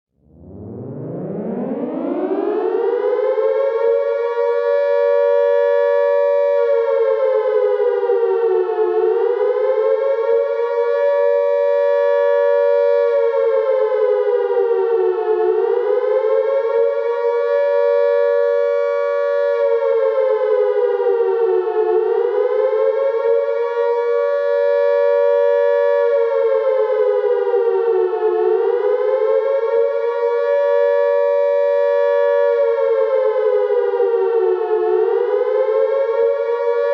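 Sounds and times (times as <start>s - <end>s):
air raid siren wailing: 0.2s - 36.9s.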